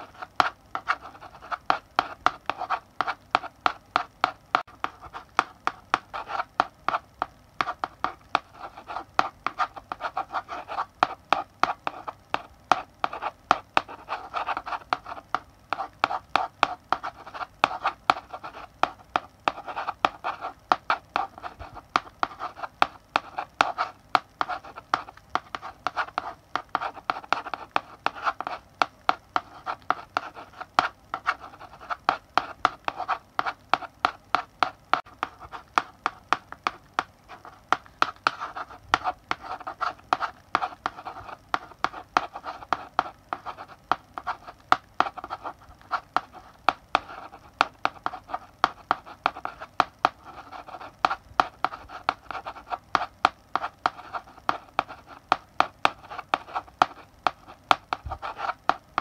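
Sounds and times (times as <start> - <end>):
chalk writing on a blackboard: 0.0 - 59.0.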